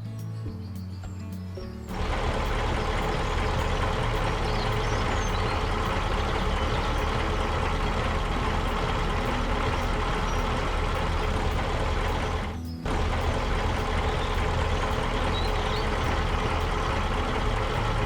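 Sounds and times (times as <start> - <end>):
vehicle engine running: 1.6 - 18.0.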